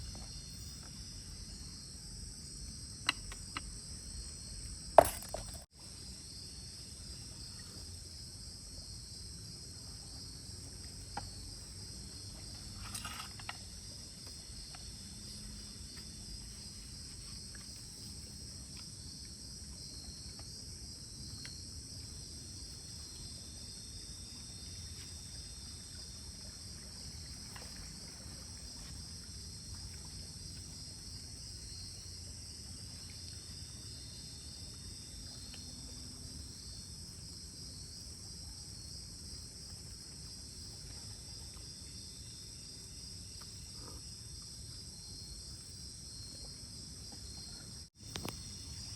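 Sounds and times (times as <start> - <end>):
crickets and insects chirping: 0.0 - 48.9
low forest hum: 0.0 - 48.9.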